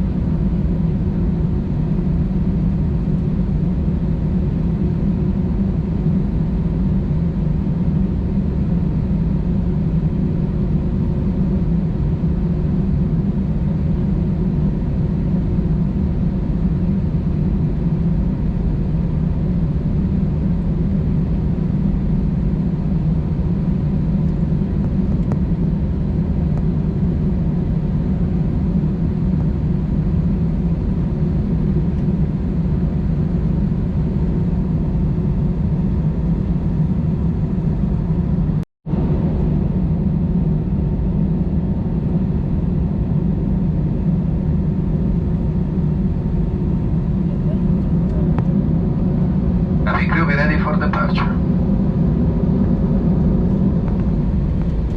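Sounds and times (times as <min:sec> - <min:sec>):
airplane cabin engine drone: 0:00.0 - 0:54.9.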